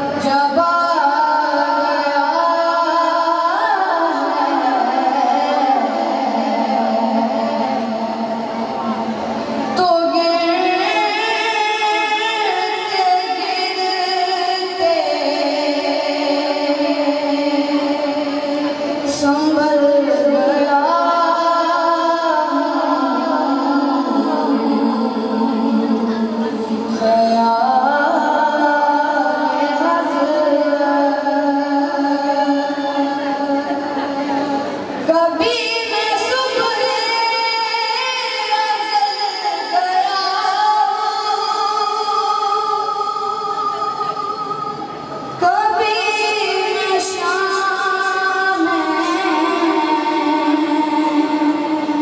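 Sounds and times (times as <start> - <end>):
boy singing into a microphone: 0.0 - 52.0.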